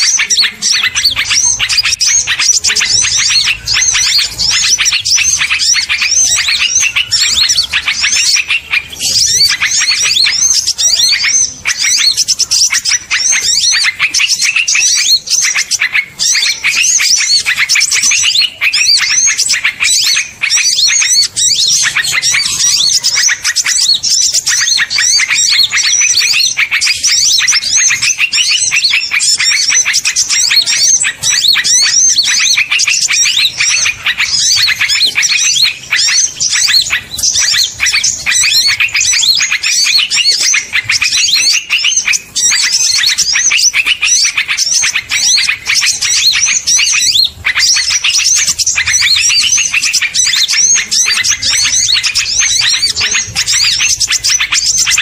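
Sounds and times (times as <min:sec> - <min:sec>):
small birds twittering and chirping: 0:00.0 - 0:55.0.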